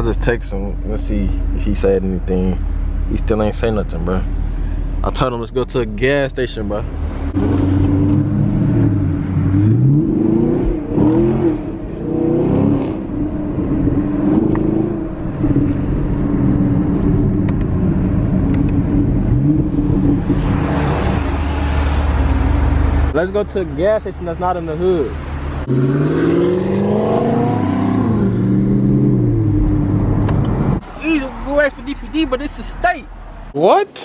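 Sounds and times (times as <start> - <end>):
car engine accelerating and shifting: 0.0 - 33.5
road noise: 0.0 - 34.0.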